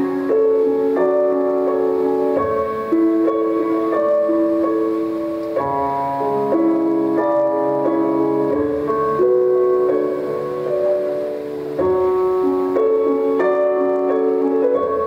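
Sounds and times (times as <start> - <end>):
piano-like keyboard music: 0.0 - 15.0.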